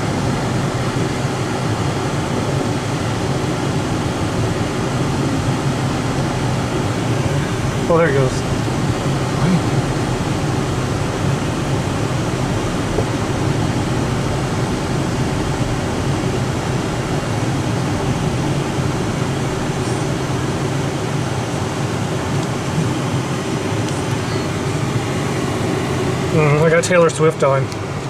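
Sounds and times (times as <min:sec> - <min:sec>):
road and engine rumble in cabin: 0:00.0 - 0:28.0.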